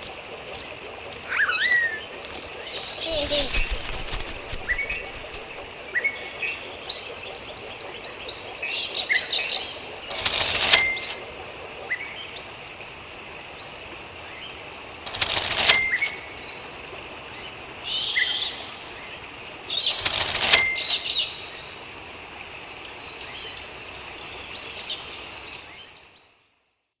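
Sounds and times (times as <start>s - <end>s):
outdoor background: 0.0s - 27.0s.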